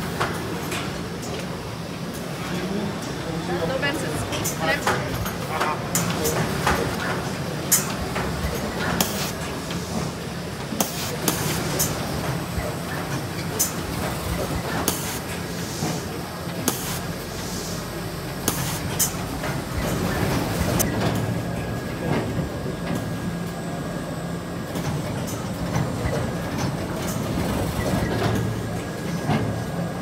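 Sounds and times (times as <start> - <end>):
conveyor belts and motors humming: 0.0 - 30.0.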